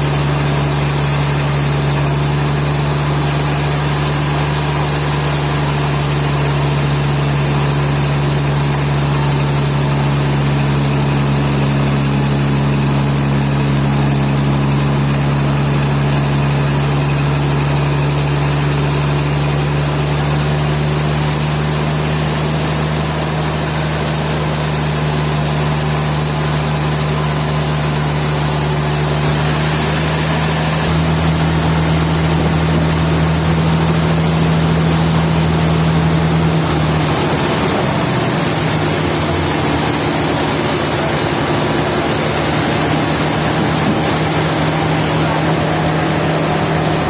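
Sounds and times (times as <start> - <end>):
sawmill machinery humming: 0.0 - 47.0.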